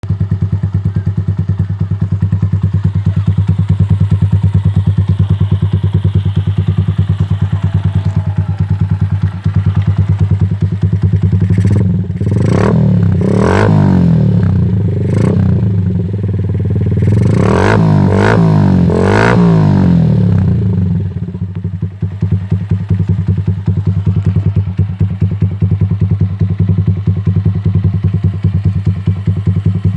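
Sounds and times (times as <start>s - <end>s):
motorcycle engine revving: 0.0s - 29.9s
motorcycle idling: 0.0s - 29.9s.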